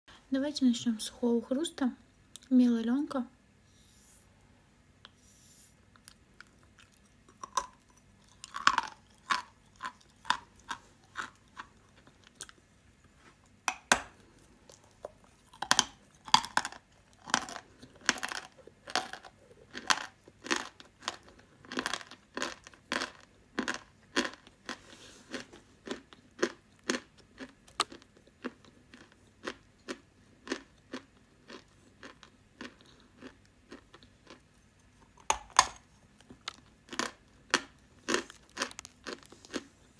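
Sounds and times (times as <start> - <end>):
chalk crunching while chewed: 5.8 - 12.7, 14.3 - 39.9.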